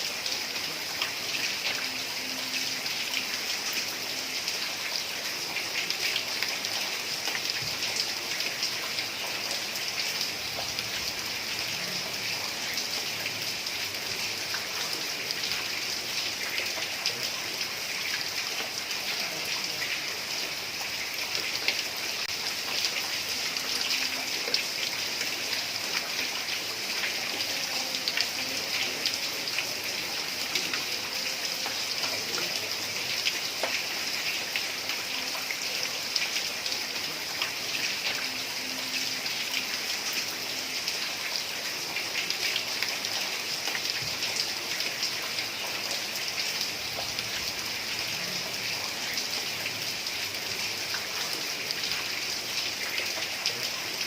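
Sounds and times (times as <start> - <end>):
heavy rain on tiled roof: 0.0 - 54.0.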